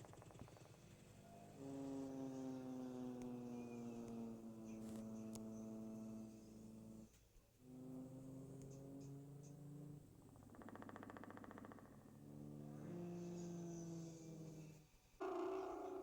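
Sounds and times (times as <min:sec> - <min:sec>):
low buzzing rattle: 0:00.0 - 0:16.0.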